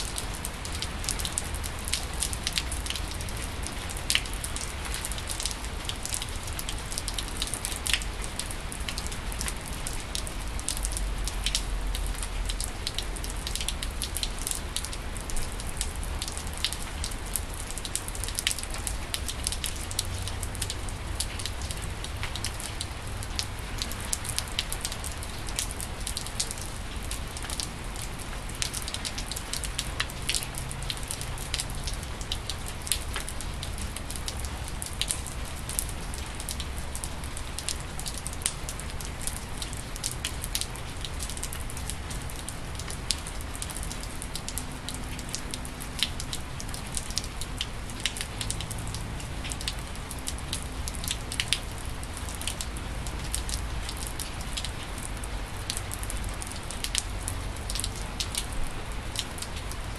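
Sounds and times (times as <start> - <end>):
rain on wet pavement: 0.0 - 59.9.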